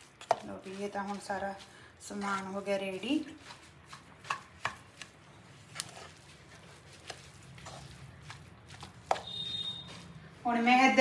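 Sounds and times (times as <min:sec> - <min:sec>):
spoon stirring and scraping a pan: 0:00.0 - 0:10.8.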